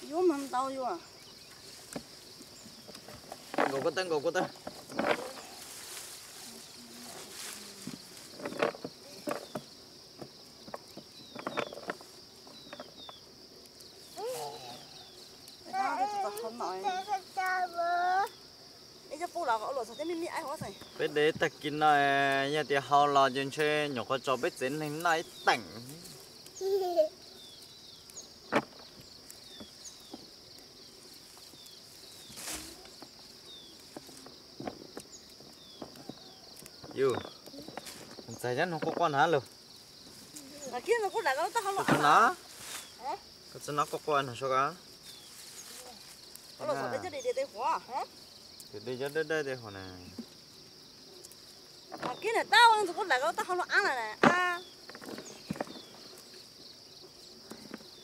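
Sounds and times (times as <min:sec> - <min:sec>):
falling bird chirps: 0:00.0 - 0:17.6, 0:24.4 - 0:39.2, 0:39.8 - 0:43.2, 0:44.9 - 0:48.7, 0:51.1 - 0:58.0
high insect drone: 0:00.0 - 0:58.0
vines rustling: 0:00.0 - 0:58.0.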